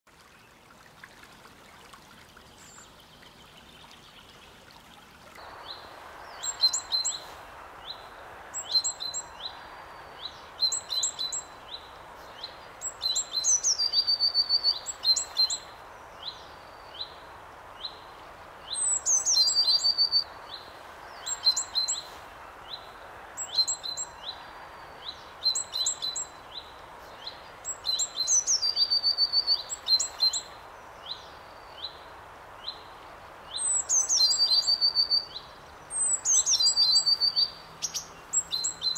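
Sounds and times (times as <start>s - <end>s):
songbirds chirping: 0.1s - 38.9s.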